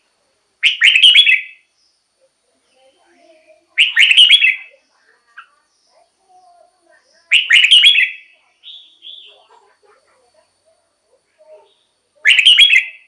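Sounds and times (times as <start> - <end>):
bird singing: 0.6 - 13.0.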